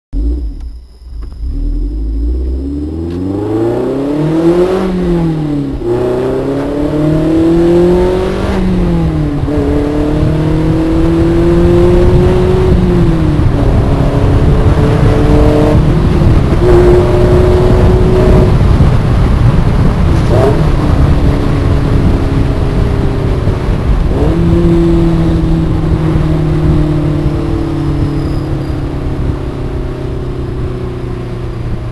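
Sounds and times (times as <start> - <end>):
car engine accelerating: 0.1 - 31.9.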